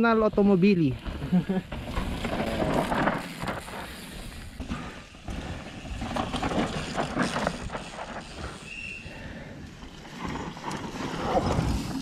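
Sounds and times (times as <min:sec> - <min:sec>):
bike chain rattling: 0:01.0 - 0:12.0
bike tyres skidding on dirt: 0:01.0 - 0:12.0.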